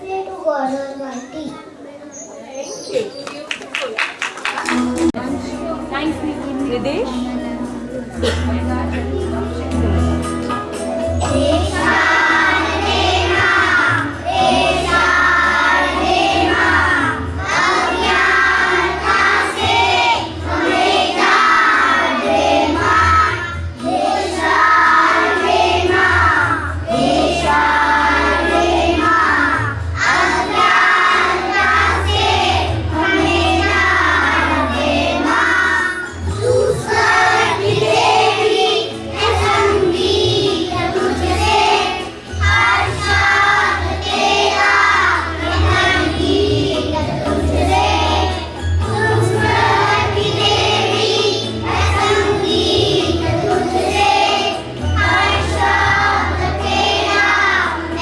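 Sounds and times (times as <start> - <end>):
children singing together: 9.1 - 58.0.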